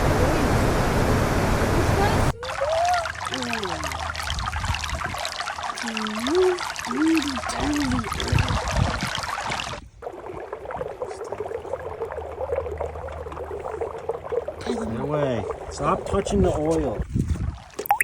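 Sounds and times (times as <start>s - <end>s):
oil trickling into a container: 2.4s - 18.0s.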